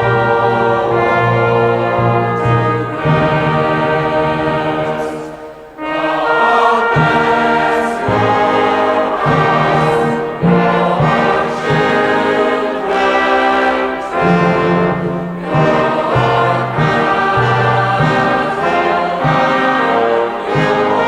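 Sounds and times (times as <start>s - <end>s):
orchestral music with choir and brass: 0.0s - 21.0s.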